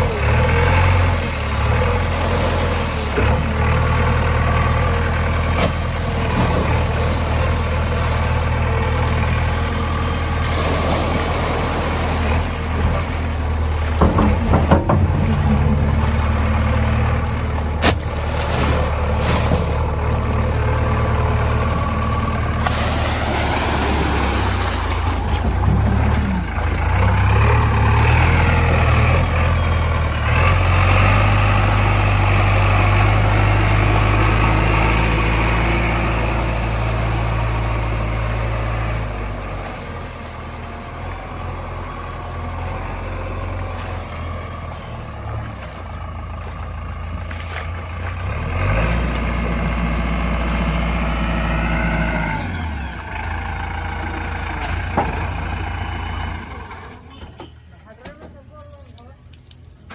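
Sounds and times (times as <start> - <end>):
heavy diesel engine running: 0.0 - 59.4.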